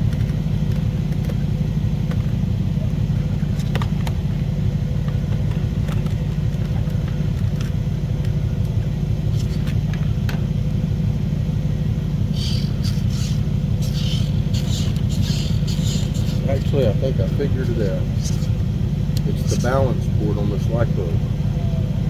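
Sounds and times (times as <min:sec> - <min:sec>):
low rumble with hum: 0:00.0 - 0:22.0.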